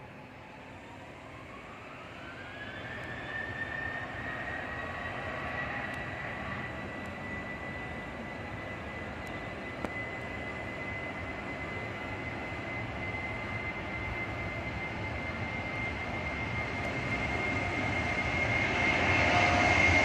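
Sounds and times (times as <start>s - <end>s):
jet engines spooling up: 0.0s - 20.0s.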